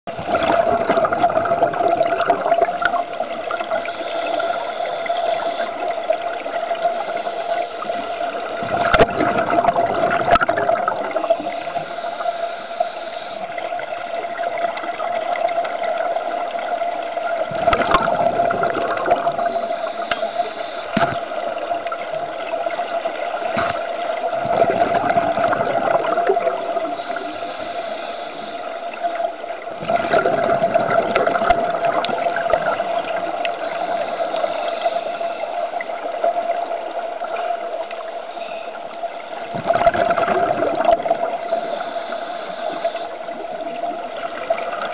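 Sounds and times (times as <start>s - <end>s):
underwater hum: 0.0s - 44.9s
bubbling surges: 0.1s - 38.1s, 39.1s - 44.9s
watery hiss: 0.2s - 44.9s.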